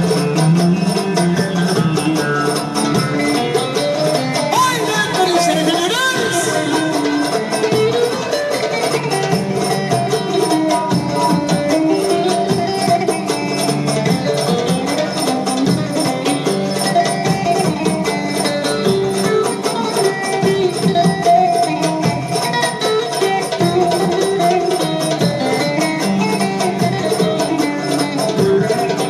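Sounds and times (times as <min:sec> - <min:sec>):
folk melody: 0:00.0 - 0:29.0
quick percussion beat: 0:00.0 - 0:29.0.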